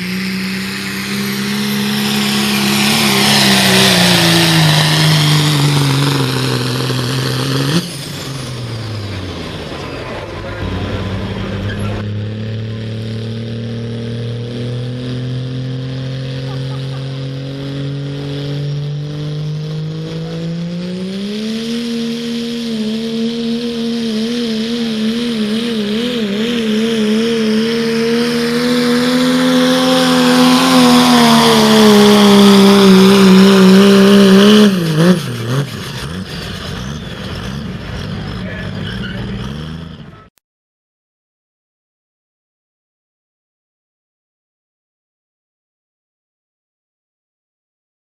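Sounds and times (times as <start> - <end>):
diesel truck engine at full throttle: 0.0 - 40.4.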